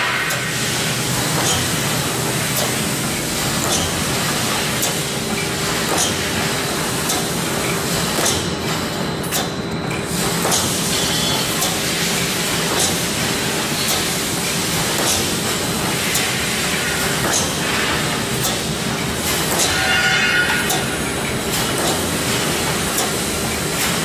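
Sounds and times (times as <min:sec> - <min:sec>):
welding machine clacks: 0:00.0 - 0:24.0
welding machine hum and hiss: 0:00.0 - 0:24.0.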